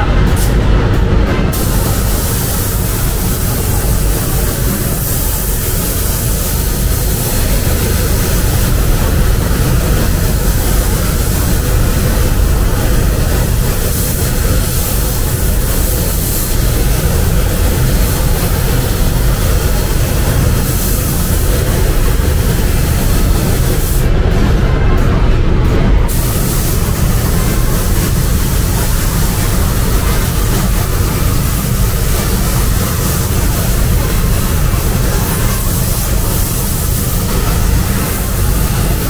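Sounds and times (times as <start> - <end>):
machine rumbling and hissing: 0.0 - 39.0.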